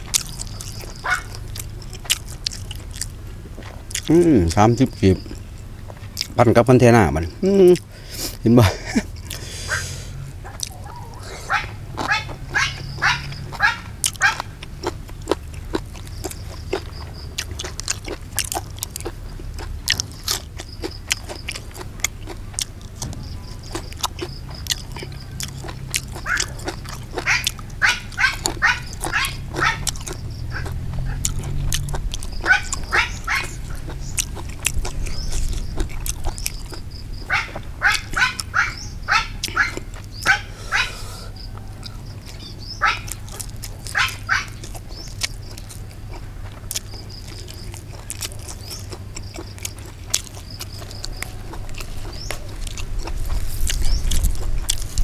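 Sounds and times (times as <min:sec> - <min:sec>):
wet chewing and lip-smacking: 0:00.0 - 0:08.4, 0:09.0 - 0:09.8, 0:10.4 - 0:55.0
low steady rumble: 0:00.0 - 0:55.0.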